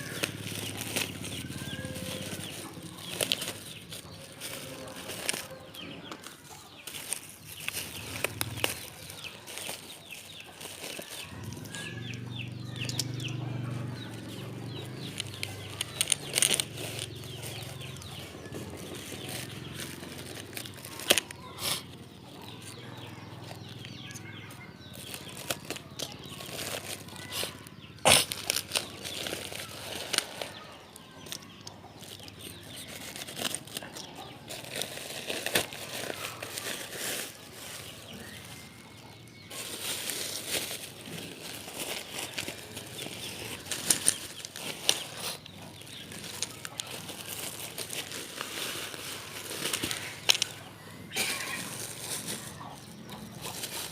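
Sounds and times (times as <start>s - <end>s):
plastic packaging crinkling: 0.0s - 53.9s.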